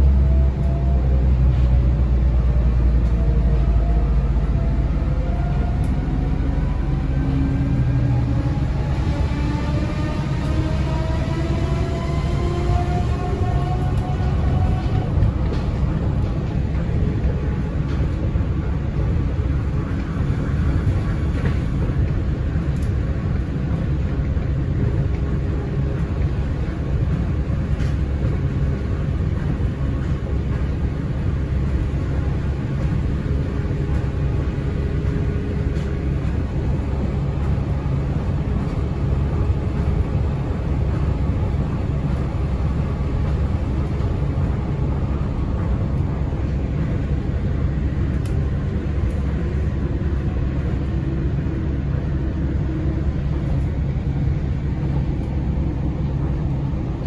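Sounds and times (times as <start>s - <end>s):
monorail car rumbling: 0.0s - 57.0s.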